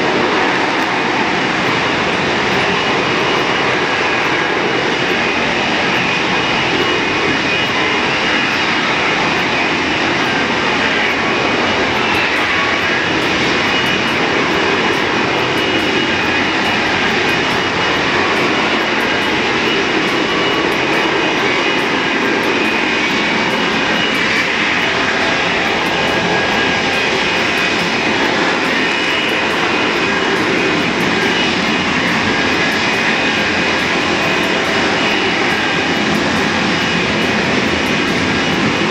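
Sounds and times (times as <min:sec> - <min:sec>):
jet fighter hovering: 0:00.0 - 0:38.9.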